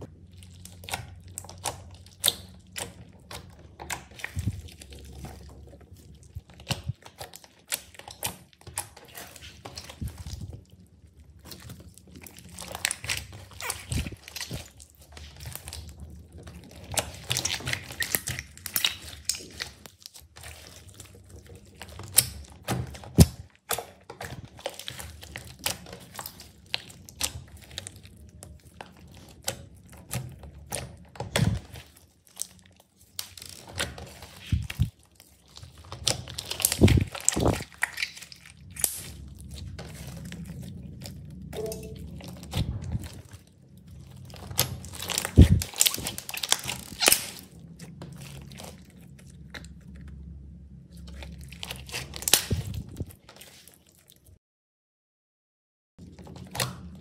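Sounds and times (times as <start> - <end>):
slime squished by hand: 0.0 - 54.3.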